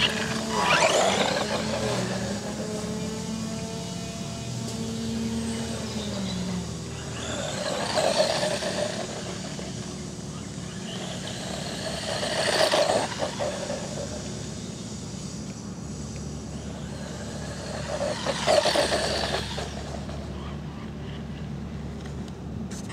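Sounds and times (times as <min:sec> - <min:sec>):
tyres on loose dirt: 0:00.0 - 0:03.5, 0:04.3 - 0:22.9
electric motor whining: 0:00.0 - 0:22.1.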